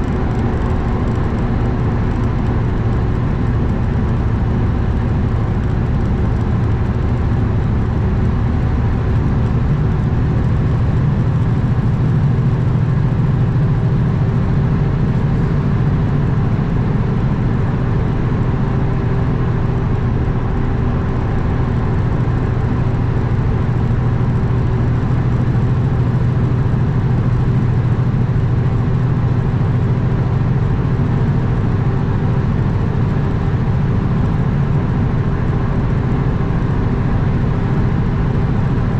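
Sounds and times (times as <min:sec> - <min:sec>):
diesel truck engine drone: 0:00.0 - 0:38.9
road and wind noise: 0:00.0 - 0:38.9.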